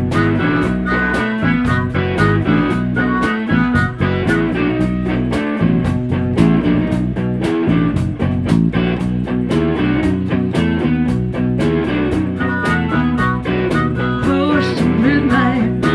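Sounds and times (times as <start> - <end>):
bass and drums: 0.0 - 15.9
electric guitar: 0.0 - 15.9.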